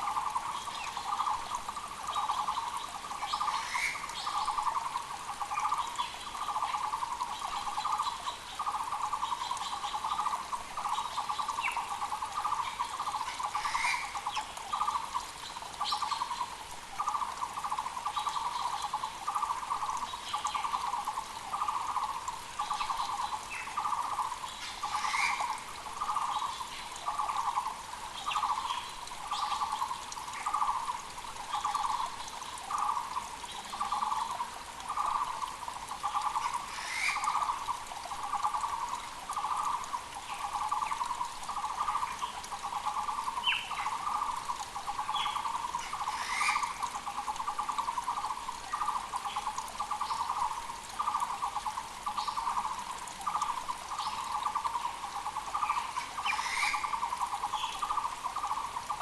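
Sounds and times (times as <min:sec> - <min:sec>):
creek rushing: 0:00.0 - 0:59.0
small birds chirping: 0:00.0 - 0:59.0.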